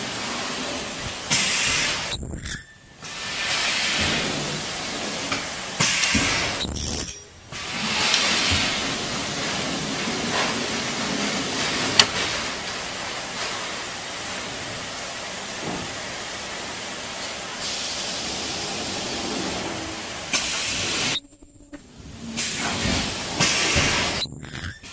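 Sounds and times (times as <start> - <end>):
ultrasonic welding machine hissing: 0.0 - 24.9.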